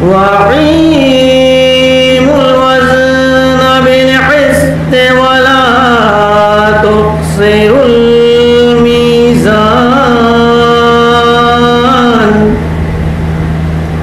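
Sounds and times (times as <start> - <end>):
man chanting a lament: 0.0 - 12.6
steady electrical hum: 0.0 - 14.0.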